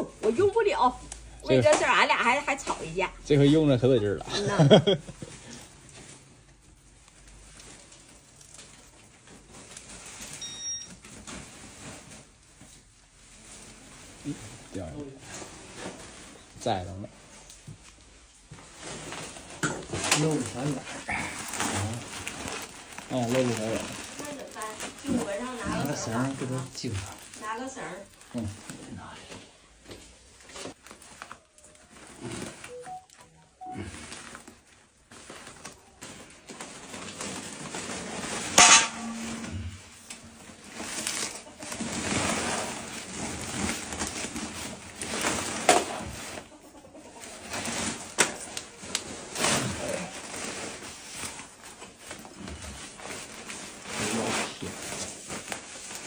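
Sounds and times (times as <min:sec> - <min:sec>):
corn sack rustling and clattering: 0:00.0 - 0:33.0, 0:33.7 - 0:56.0.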